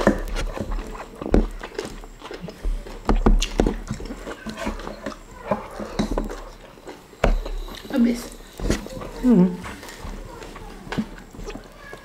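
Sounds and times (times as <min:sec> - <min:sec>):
wet chewing and lip smacking: 0:00.0 - 0:12.0.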